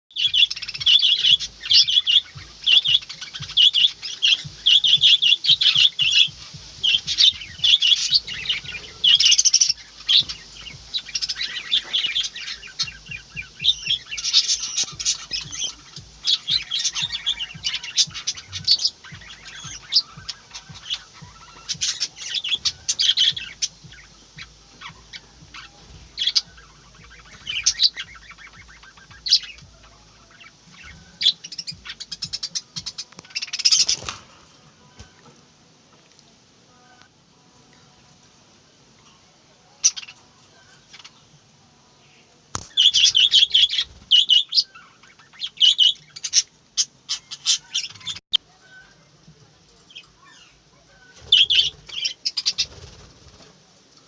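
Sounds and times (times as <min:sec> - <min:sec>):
sparrows chirping: 0:00.1 - 0:35.3, 0:38.8 - 0:53.6.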